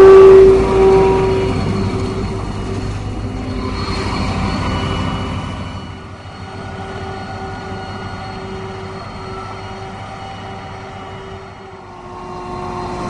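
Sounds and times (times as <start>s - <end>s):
heavy diesel drone: 0.0s - 13.0s
high mechanical whine: 0.0s - 13.0s.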